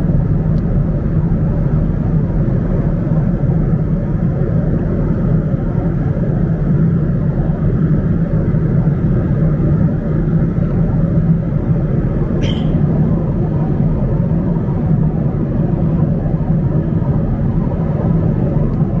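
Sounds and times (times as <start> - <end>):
airliner cabin noise: 0.0 - 19.0
low steady hum: 0.0 - 19.0.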